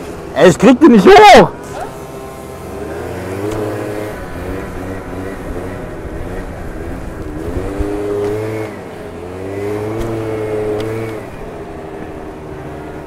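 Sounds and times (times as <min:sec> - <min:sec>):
scooter engine revving: 0:01.5 - 0:13.0.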